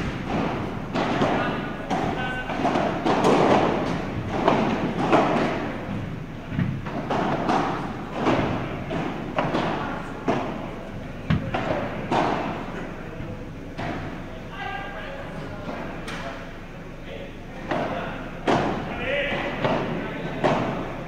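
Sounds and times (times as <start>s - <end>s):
balls struck by rackets: 0.0s - 14.3s, 15.4s - 16.6s, 17.6s - 21.0s
echoing thuds in a hall: 0.0s - 21.0s.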